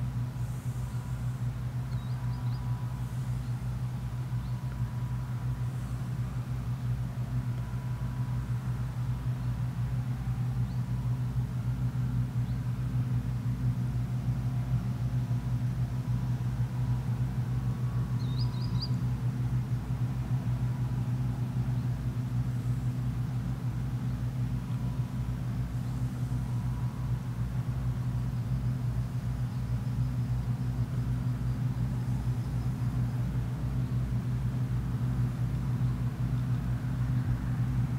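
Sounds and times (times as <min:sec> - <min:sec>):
combine harvester engine drone: 0:00.0 - 0:37.9.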